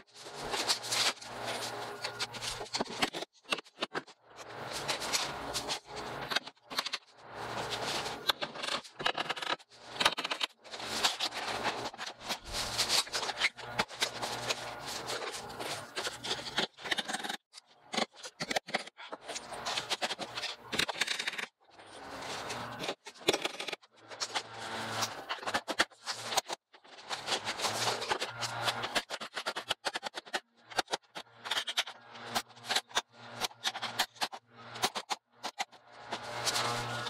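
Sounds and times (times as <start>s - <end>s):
vinyl siding scraping and rattling: 0.0s - 37.0s.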